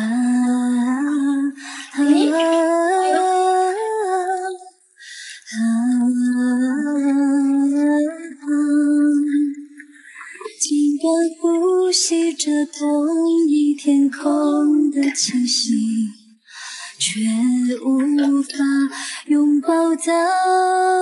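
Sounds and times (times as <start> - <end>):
woman singing pop melody: 0.0 - 4.8, 5.4 - 21.0.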